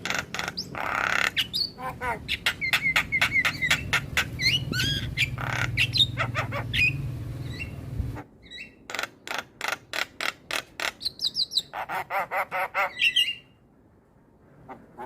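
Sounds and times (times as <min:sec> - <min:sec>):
bird harsh chak calls: 0:00.0 - 0:13.6.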